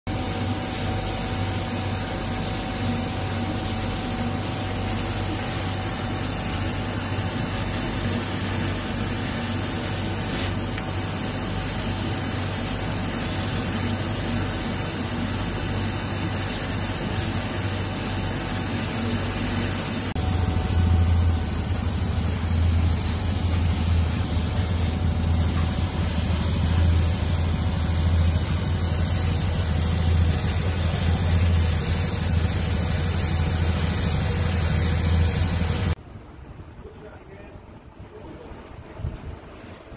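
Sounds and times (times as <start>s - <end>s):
laser cutter mechanical hum: 0.1s - 36.0s.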